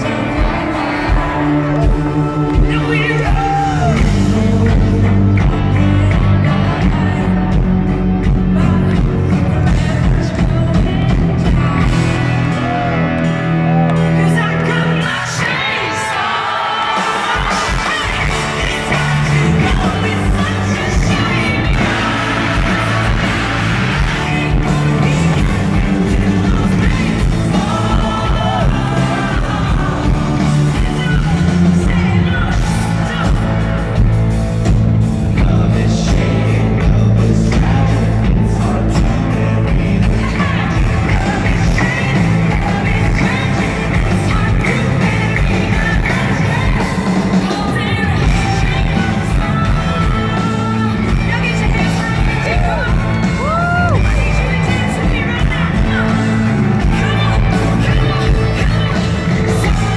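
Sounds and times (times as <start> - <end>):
woman singing: 0.0 - 12.9, 14.2 - 34.1, 35.4 - 59.9
country-rock band playing: 0.0 - 59.9.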